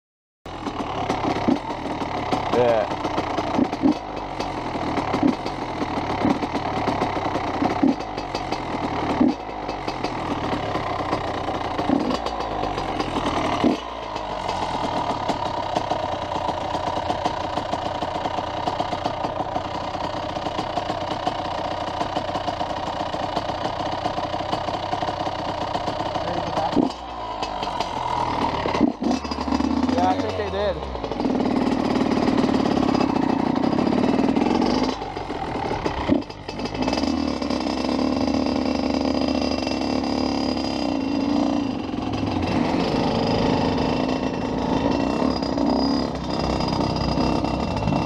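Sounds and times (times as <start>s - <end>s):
motorcycle engine running: 0.5s - 48.0s.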